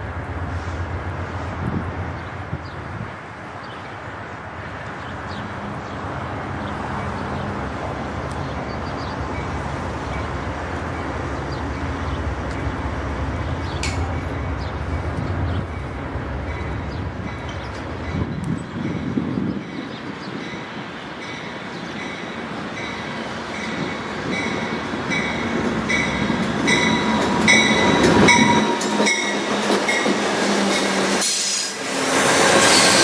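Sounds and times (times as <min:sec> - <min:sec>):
diesel train engine rumble: 0:00.0 - 0:33.0.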